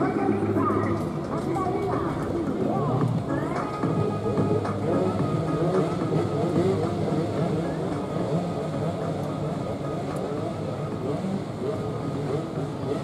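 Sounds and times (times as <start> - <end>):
motorcycle engines idling and revving: 0.0 - 13.0.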